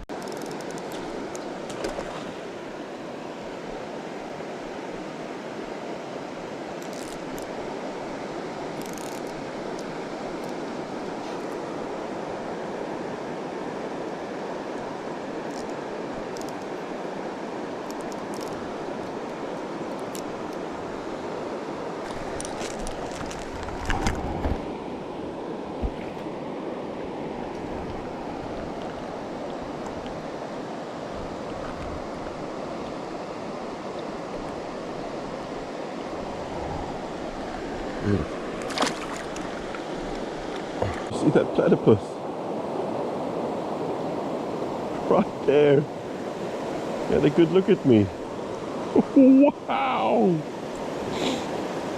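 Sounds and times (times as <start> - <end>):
mountain river flowing: 0.0 - 51.9.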